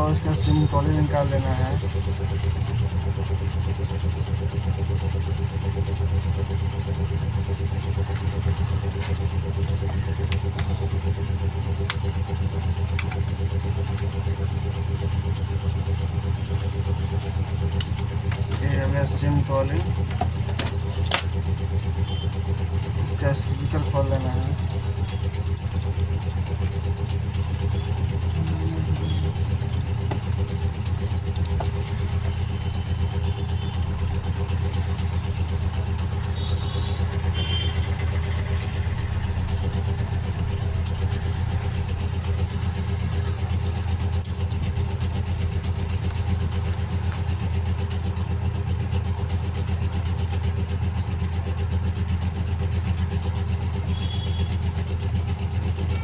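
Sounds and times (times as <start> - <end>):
low motor hum: 0.0 - 56.0.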